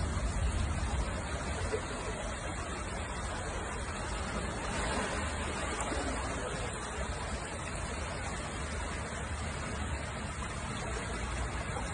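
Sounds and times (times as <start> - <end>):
rain and floodwater rushing: 0.0 - 11.9.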